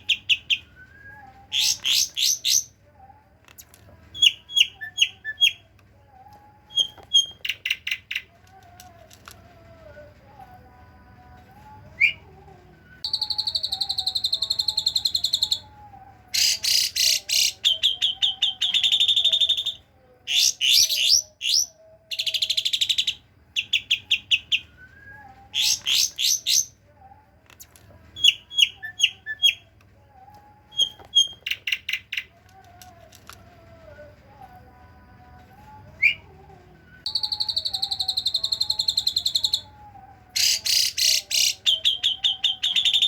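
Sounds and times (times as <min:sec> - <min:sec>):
starling singing buzzy trills: 0:00.0 - 0:43.0.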